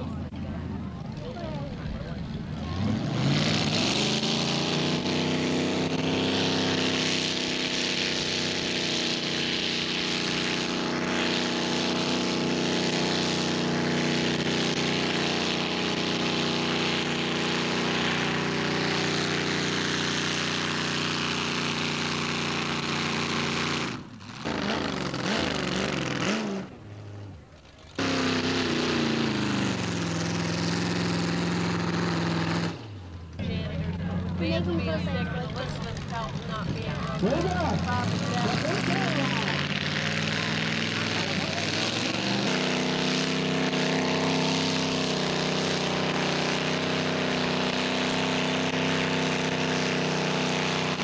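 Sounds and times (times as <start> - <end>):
tractor engine revving: 0.0 - 51.0.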